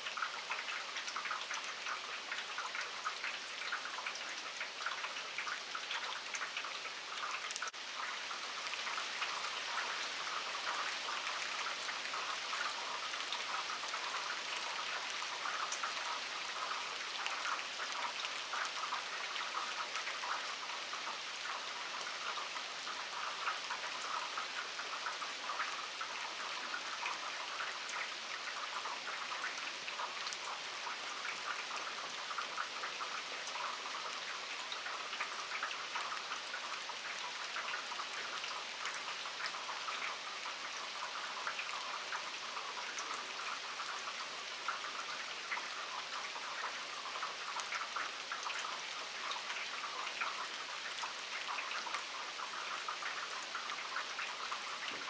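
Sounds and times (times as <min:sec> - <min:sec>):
rain on wet pavement: 0:00.0 - 0:55.0.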